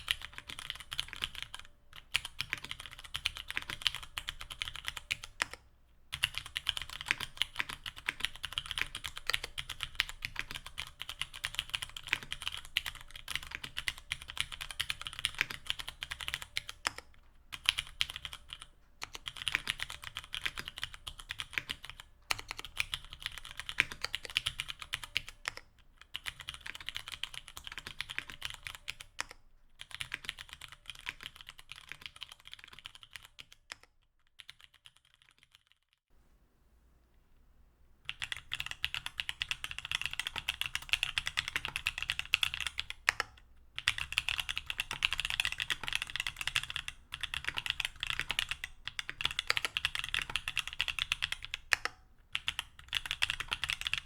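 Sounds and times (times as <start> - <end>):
fast mechanical keyboard typing: 0.0 - 33.8, 34.4 - 35.8, 38.1 - 54.0.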